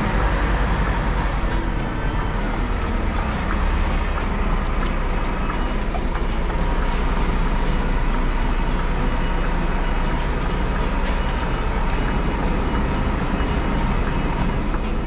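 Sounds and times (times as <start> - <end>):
diesel truck engine running: 0.0 - 15.0
road noise: 0.0 - 15.0.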